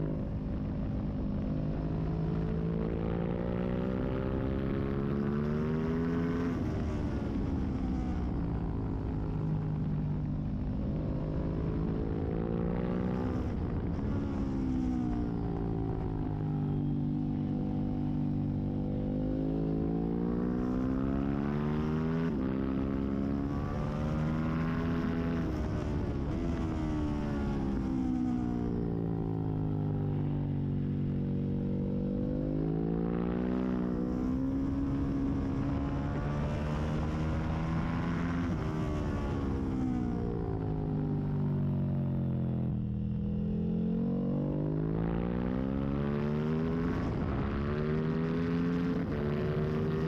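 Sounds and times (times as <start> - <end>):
motorcycle engine at speed: 0.0 - 50.0.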